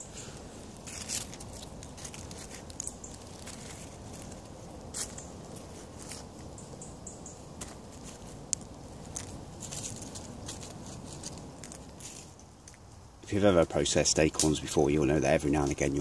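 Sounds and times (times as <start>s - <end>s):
dry leaves rustling and crackling: 0.0s - 13.4s.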